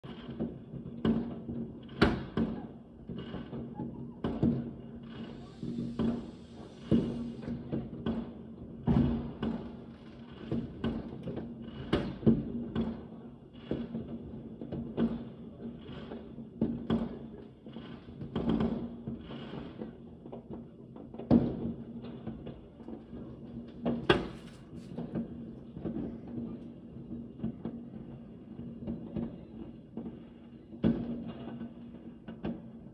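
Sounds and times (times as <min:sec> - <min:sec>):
fireworks bangs with echo: 0:00.0 - 0:32.9.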